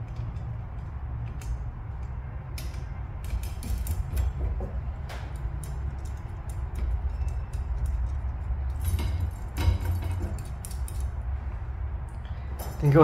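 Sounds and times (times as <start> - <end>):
metal nut clicking and scraping: 0.0 - 4.5, 5.1 - 11.3
steady low hum: 0.0 - 13.0.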